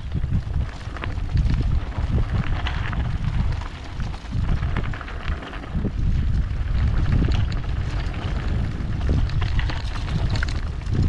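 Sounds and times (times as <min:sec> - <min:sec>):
stones clicking and rattling: 0:00.0 - 0:11.0
tyres crunching on gravel: 0:00.0 - 0:11.0
wind buffeting microphone: 0:00.0 - 0:11.0.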